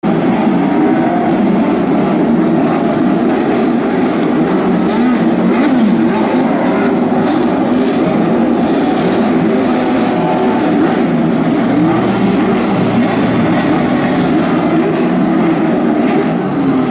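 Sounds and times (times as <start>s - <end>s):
racing car engines revving: 0.0s - 16.9s.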